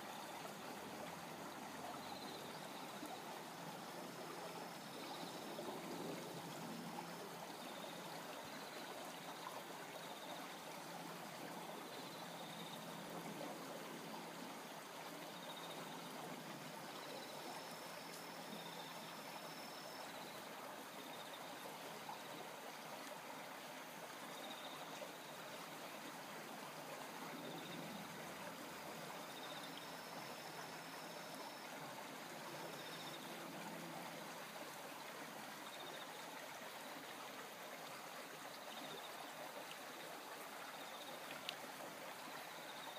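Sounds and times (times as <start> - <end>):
stream flowing: 0.0 - 42.9.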